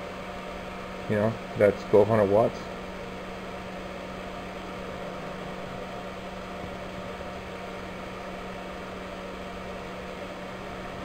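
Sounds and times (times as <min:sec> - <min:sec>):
electrical equipment hum: 0:00.0 - 0:11.0.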